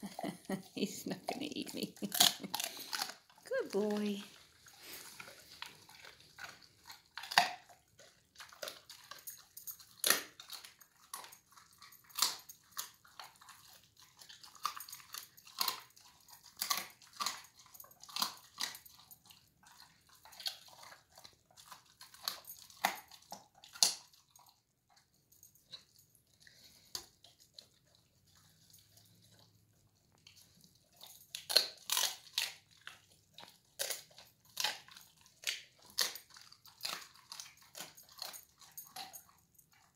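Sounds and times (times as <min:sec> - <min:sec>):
puppy chewing and licking: 0:00.0 - 0:39.9.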